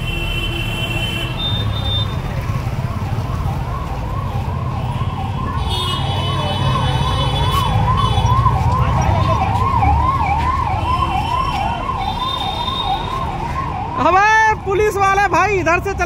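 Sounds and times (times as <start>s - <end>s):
low traffic rumble: 0.0s - 16.0s
emergency siren yelping: 2.2s - 16.0s.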